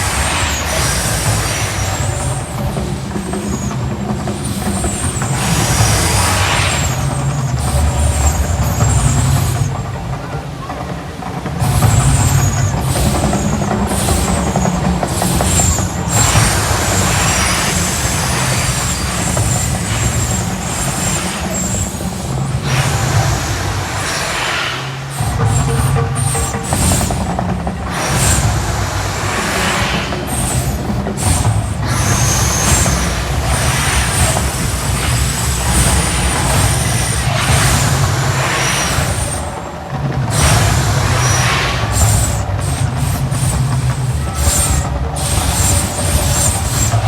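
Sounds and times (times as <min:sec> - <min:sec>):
deep loud rumble: 0:00.0 - 0:47.0
hissing gas-fire whooshes: 0:00.0 - 0:47.0.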